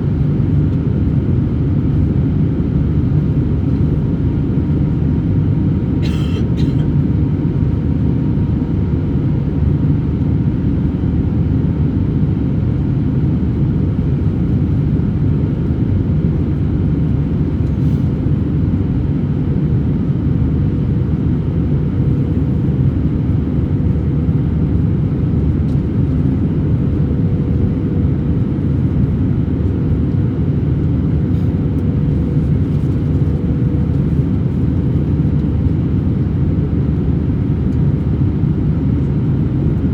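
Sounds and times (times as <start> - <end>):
airflow and engine drone: 0.0 - 39.9.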